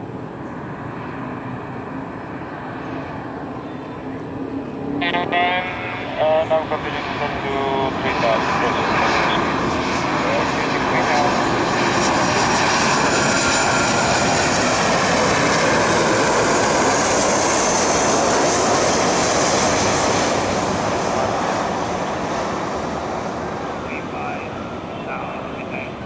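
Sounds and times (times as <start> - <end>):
faint high engine whine: 0.0 - 26.0
jet airliner passing close: 0.0 - 26.0.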